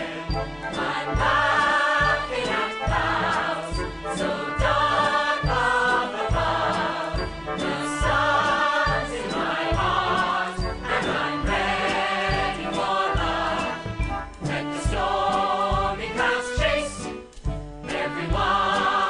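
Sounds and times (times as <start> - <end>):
group of voices singing: 0.0 - 17.2, 17.8 - 19.0.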